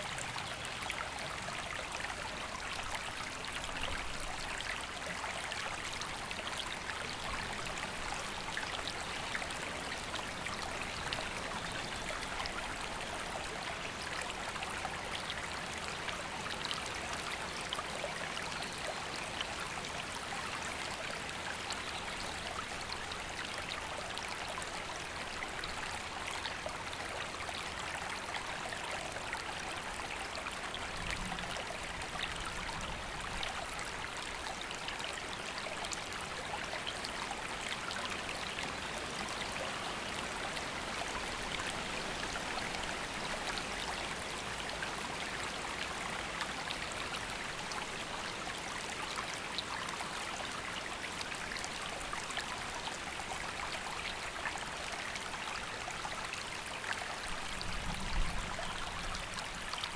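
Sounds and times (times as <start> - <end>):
river water babbling over stones: 0.0 - 59.9.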